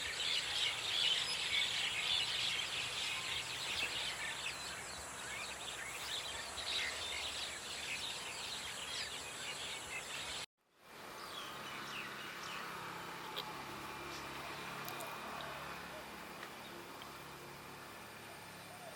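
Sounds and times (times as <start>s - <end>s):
birds chirping: 0.0s - 10.5s, 11.2s - 18.9s
forest ambience hiss: 0.0s - 18.9s.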